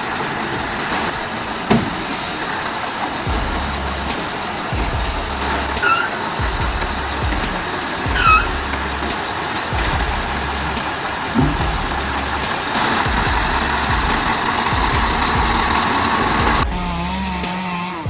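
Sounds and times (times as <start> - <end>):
truck engine under load: 0.0 - 18.0.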